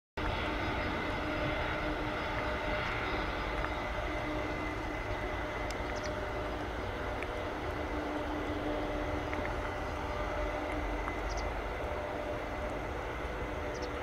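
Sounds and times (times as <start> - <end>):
faint whining tones: 0.2 - 14.0
jet engines rumbling: 0.2 - 14.0.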